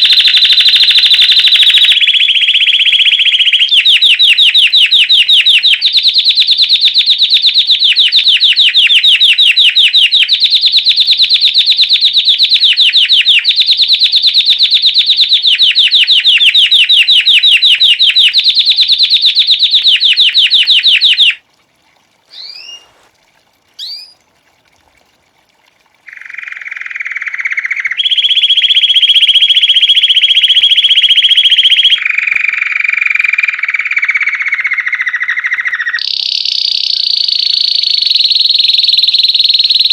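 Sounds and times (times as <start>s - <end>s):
canary singing trills: 0.0s - 10.4s, 11.1s - 21.4s, 22.3s - 23.1s, 23.8s - 24.2s, 26.1s - 39.9s.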